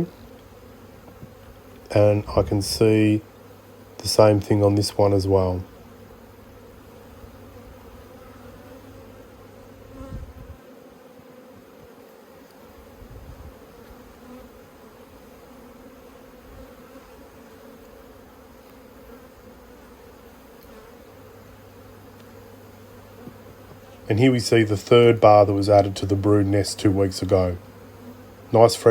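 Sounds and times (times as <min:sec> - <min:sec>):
honeybees buzzing: 0:00.0 - 0:28.9.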